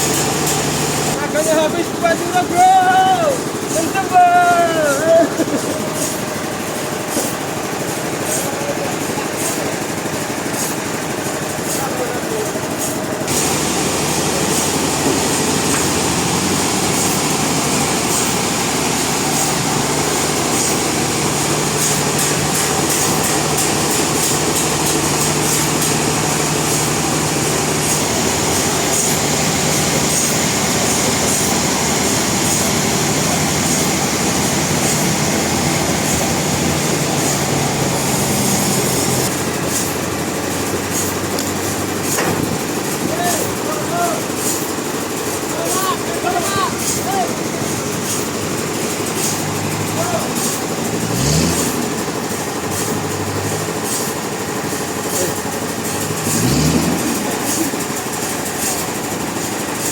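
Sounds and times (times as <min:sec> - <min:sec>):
sawmill machinery humming: 0:00.0 - 0:59.9.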